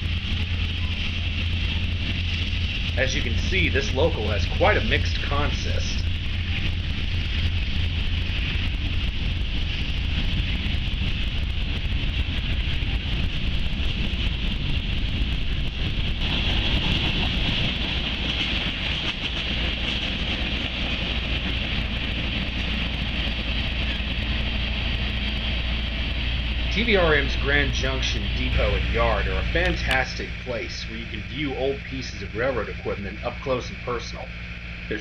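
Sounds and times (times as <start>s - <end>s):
freight train rolling on rails: 0.0s - 35.0s.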